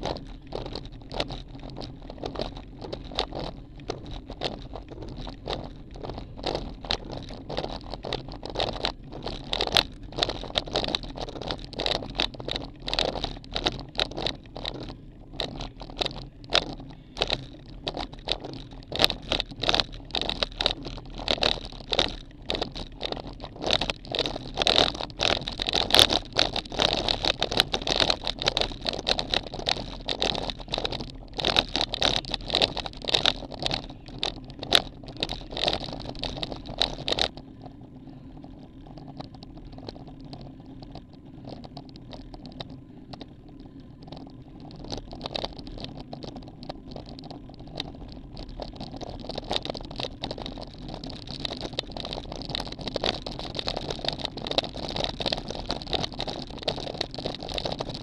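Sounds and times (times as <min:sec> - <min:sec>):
bike tyre on asphalt: 0:00.0 - 0:58.0
crackle and rattle: 0:00.0 - 0:58.0.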